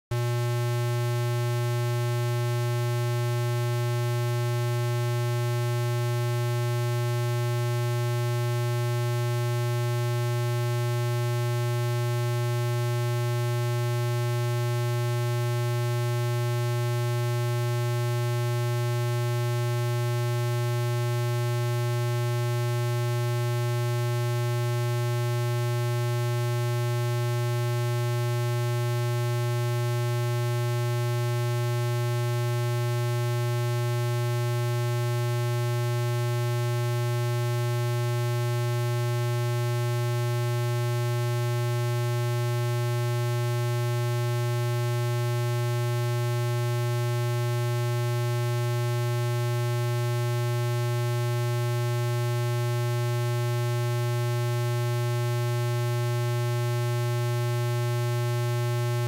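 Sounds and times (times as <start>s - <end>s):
low electronic hum: 0.1s - 59.0s.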